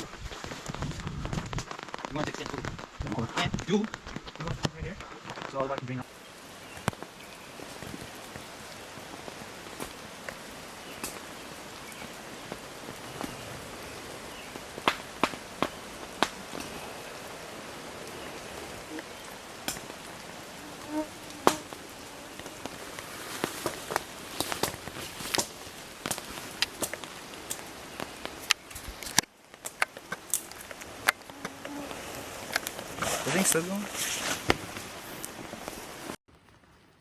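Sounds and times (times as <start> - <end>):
rain hiss: 0.0 - 37.0.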